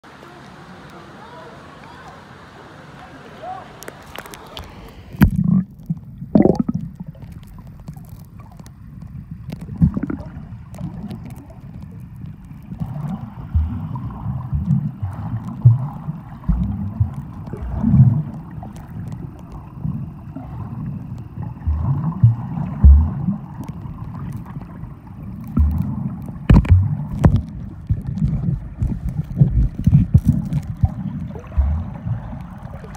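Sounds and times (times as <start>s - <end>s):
underwater rumbling and gurgling: 4.1s - 32.9s.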